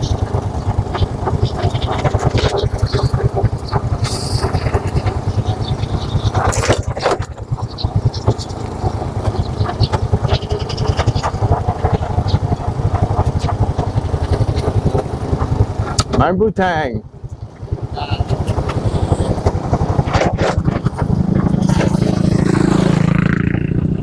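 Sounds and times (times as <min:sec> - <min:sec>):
knocks and rattles: 0:00.0 - 0:16.3, 0:17.1 - 0:24.0
motorcycle engine running: 0:00.0 - 0:24.0
rush of noise: 0:00.0 - 0:24.0.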